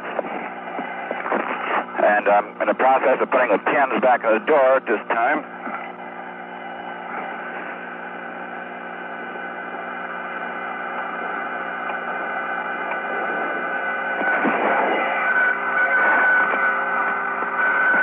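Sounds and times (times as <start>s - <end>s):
hum of steady tones: 0.0s - 18.0s
radio hiss: 0.0s - 18.0s.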